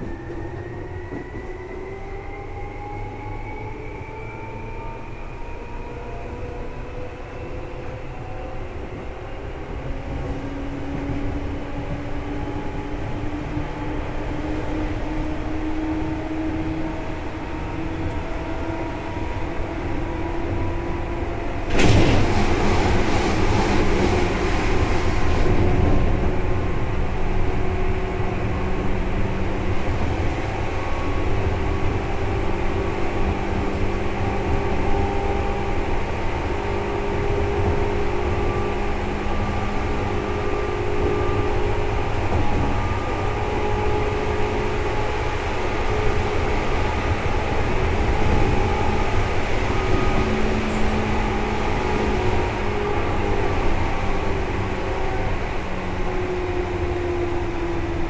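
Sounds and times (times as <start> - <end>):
electric train rumble: 0.0 - 58.0.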